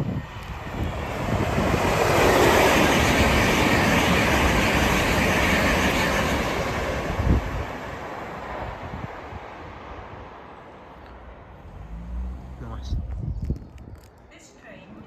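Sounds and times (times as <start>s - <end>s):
electric train passing: 0.0s - 12.9s.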